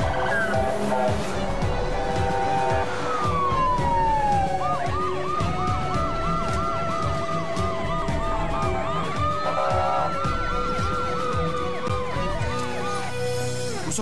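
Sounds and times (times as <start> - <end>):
siren steady tone: 0.0 - 13.6
police siren wail and yelp: 0.0 - 13.8
music: 0.0 - 14.0.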